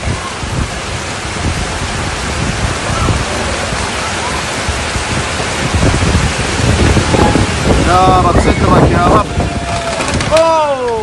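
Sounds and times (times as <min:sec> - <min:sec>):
floodwater torrent roaring: 0:00.0 - 0:11.0.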